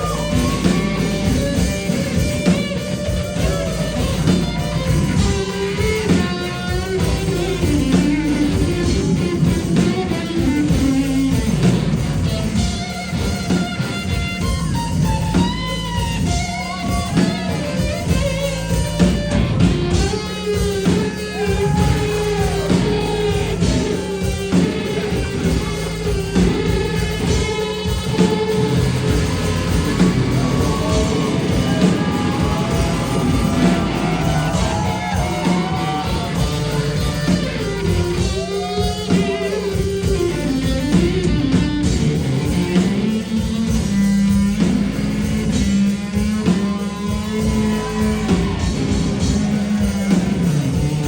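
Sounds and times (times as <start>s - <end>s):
drum kit: 0.0s - 51.0s
electric guitar: 0.0s - 51.0s.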